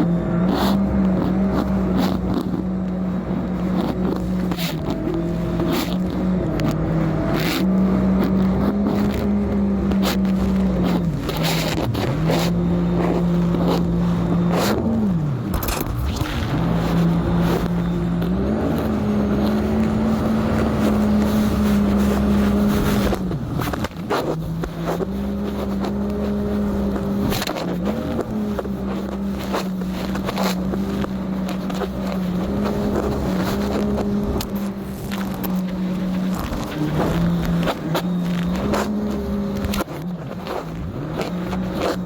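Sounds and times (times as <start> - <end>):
jet ski engine running: 0.0 - 42.0.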